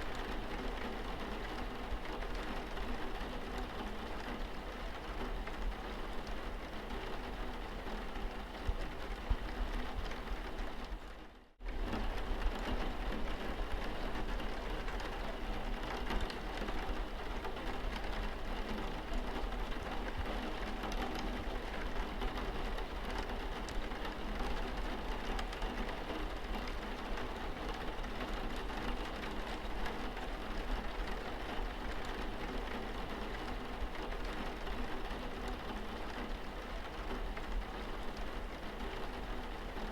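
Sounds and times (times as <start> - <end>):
rain on car windscreen: 0.1 - 39.9.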